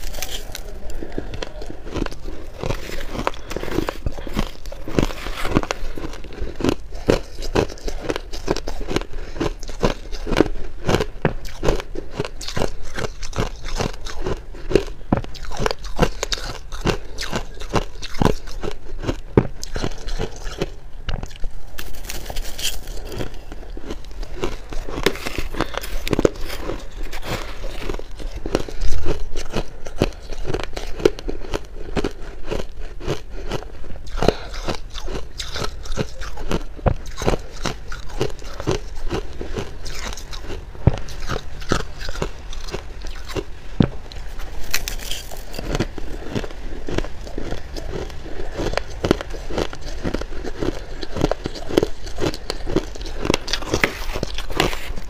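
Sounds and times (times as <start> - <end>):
ice crunching between teeth: 0.0 - 55.0.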